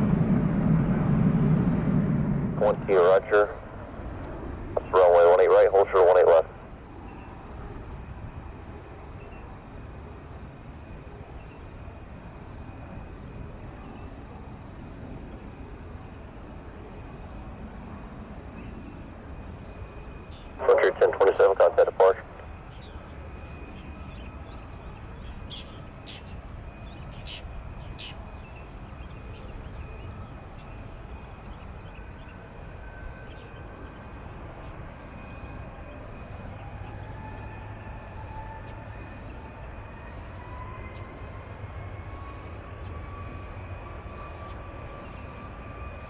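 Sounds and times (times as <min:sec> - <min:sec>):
jet engines rumbling and whining: 0:00.0 - 0:46.0.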